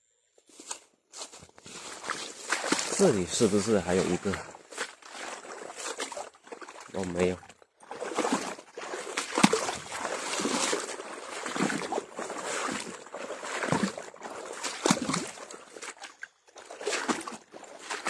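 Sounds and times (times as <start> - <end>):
water sloshing and splashing: 1.3 - 18.0.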